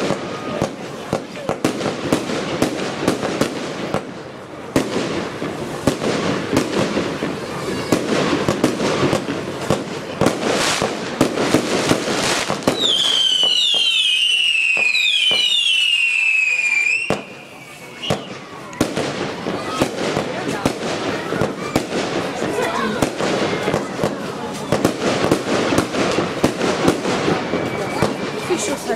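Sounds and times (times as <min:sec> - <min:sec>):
firework bangs and crackling: 0:00.0 - 0:28.9
firework whistles: 0:04.8 - 0:28.9.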